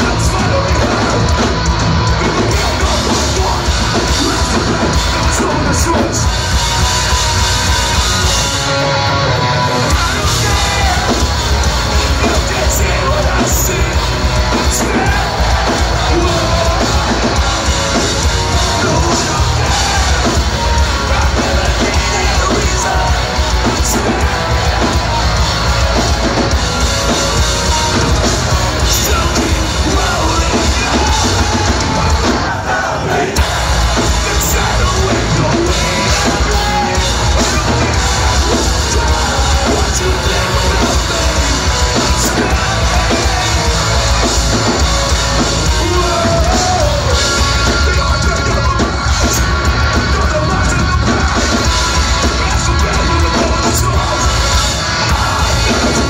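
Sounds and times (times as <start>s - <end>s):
punk band playing live: 0.0s - 56.0s
yelled vocals: 0.0s - 56.0s.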